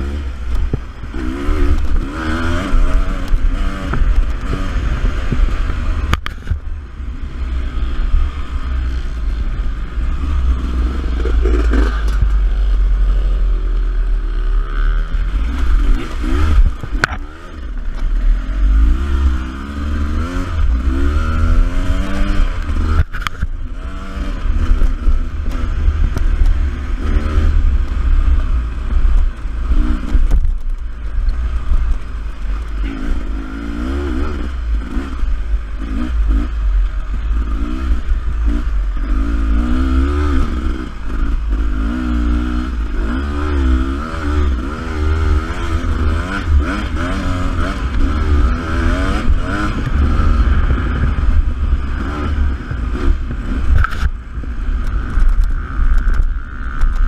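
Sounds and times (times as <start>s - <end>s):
heavy low rumble: 0.0s - 57.0s
motorcycle engine revving: 0.0s - 57.0s.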